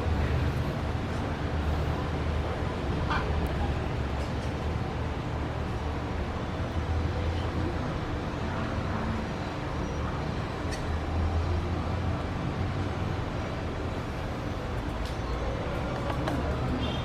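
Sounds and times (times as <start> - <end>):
low rumble of distant traffic: 0.0 - 17.0.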